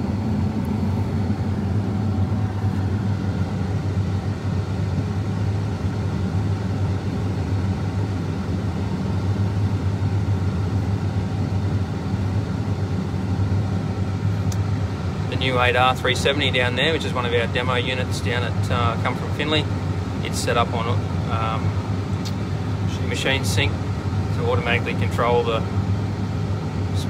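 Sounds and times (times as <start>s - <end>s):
combine harvester hum from cab: 0.0s - 27.0s.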